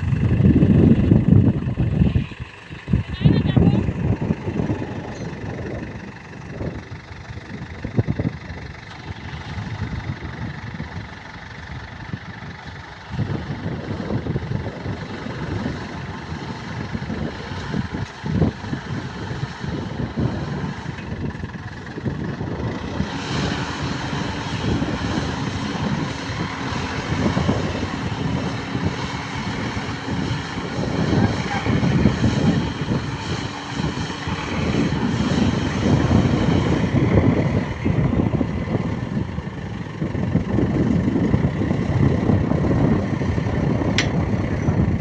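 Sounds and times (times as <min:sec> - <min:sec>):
diesel machinery engines running: 0:00.0 - 0:45.0.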